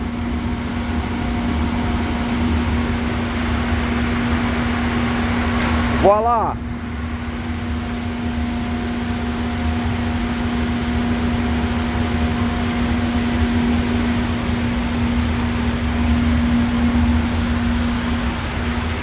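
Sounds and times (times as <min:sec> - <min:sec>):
machinery droning: 0:00.0 - 0:19.0.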